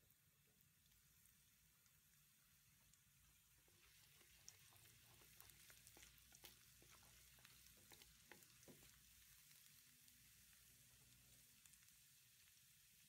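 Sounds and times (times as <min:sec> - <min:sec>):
aromatics sizzling in oil: 0:00.0 - 0:13.0
wooden spatula stirring in wok: 0:01.1 - 0:13.0.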